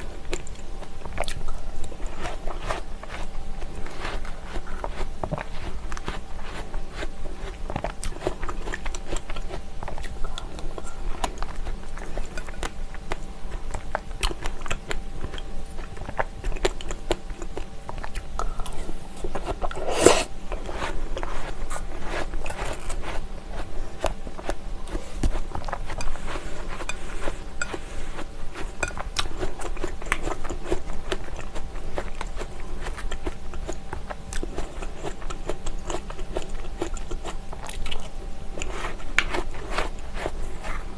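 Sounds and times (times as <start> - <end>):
wet chewing with crunches: 0.0 - 40.9.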